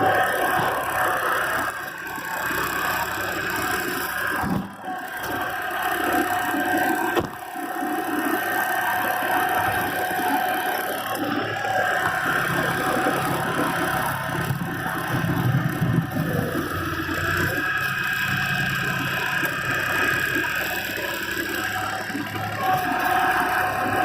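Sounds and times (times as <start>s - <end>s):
diesel tractor engine running: 0.0s - 24.0s
steady mechanical whine: 0.0s - 24.0s.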